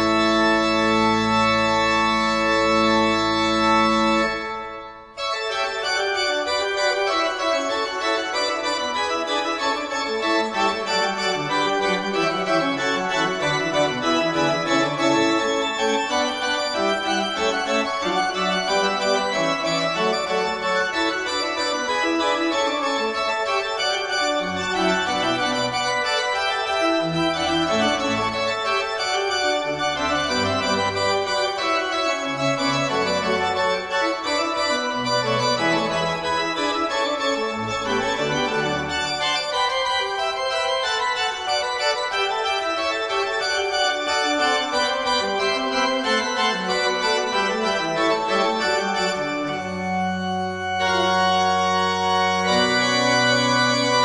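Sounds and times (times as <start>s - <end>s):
deep organ pedal bass: 0.0s - 4.6s, 7.3s - 39.8s, 42.5s - 54.0s
pipe organ playing: 0.0s - 54.0s.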